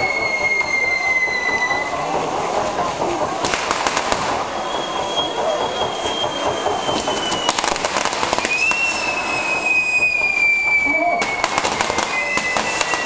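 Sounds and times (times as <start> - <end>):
firework crackles: 0.0 - 13.0
firework whistle: 0.0 - 13.0
fireworks spraying sparks hiss: 0.0 - 13.0.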